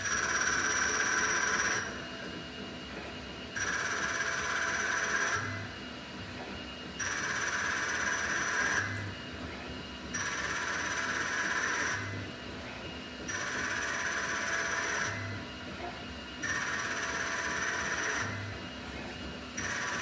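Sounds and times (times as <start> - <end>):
high machine whine: 0.0 - 20.0.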